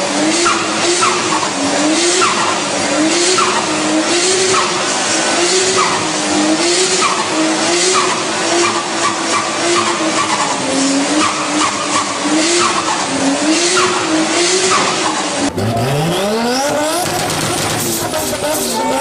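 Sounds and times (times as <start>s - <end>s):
car engine revving: 0.0s - 19.0s
car tyres squealing: 0.0s - 19.0s.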